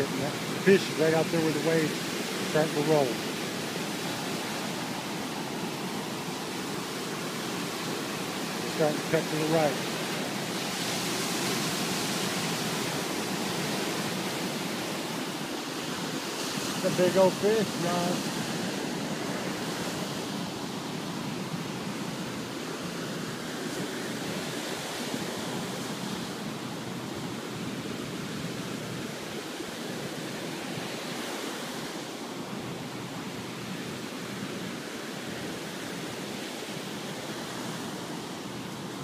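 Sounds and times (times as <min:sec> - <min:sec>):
ocean surf breaking: 0:00.0 - 0:39.0.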